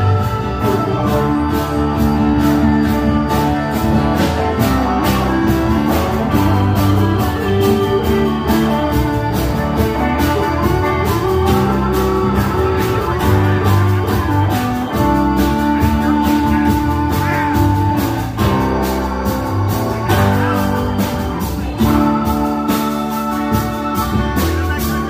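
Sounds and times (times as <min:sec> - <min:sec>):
drum beat: 0:00.0 - 0:25.0
electric guitars: 0:00.0 - 0:25.0
keyboard: 0:00.0 - 0:25.0.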